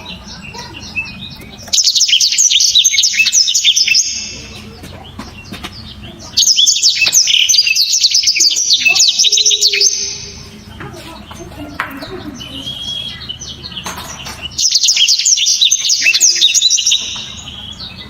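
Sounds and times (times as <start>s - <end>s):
canary twittering: 0.0s - 18.0s.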